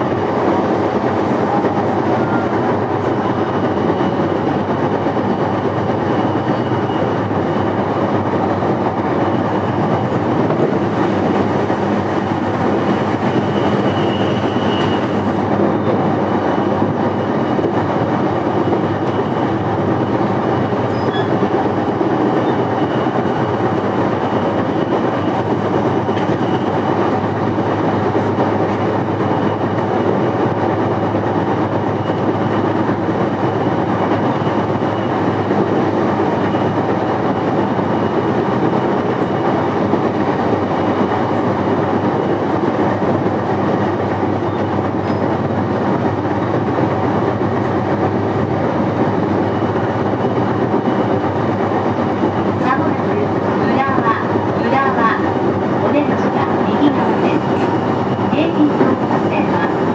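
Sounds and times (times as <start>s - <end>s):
train wheel and rail noise: 0.0s - 59.9s.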